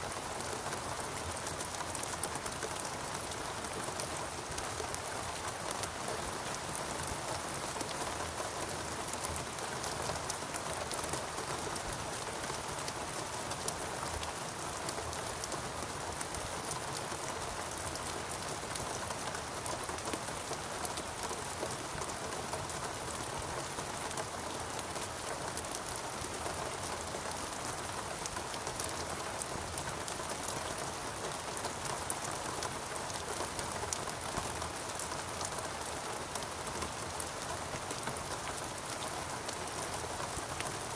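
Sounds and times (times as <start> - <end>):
raindrops pattering on leaves: 0.0 - 40.9
steady rain hissing: 0.0 - 40.9.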